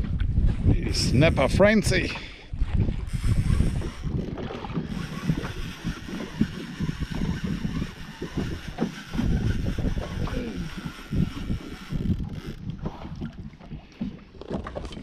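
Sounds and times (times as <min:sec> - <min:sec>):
water slapping boat hull: 0:00.0 - 0:15.0
wind buffeting microphone: 0:00.0 - 0:15.0.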